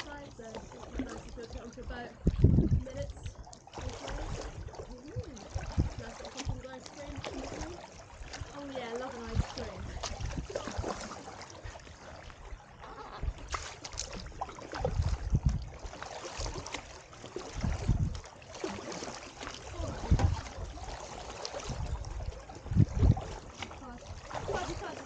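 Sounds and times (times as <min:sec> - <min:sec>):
kayak paddle splashing: 0:00.0 - 0:25.0
water lapping against hull: 0:00.0 - 0:25.0.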